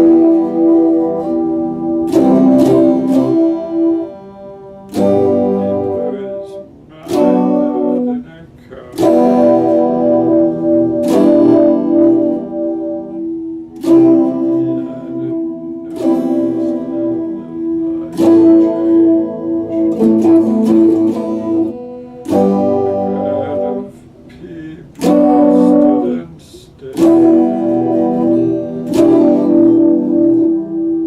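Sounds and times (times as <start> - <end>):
electric guitar strumming chords: 0.0 - 31.0.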